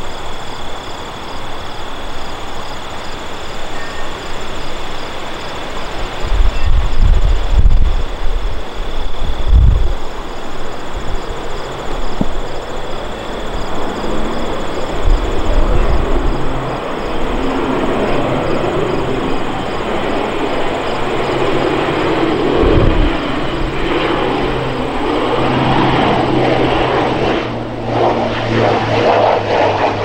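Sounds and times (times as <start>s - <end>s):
propeller aircraft drone: 0.0s - 30.0s
wind buffeting microphone: 5.9s - 30.0s.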